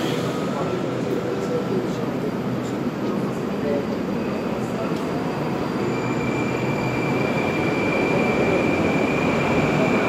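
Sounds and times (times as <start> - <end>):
high train whine: 0.0 - 10.0.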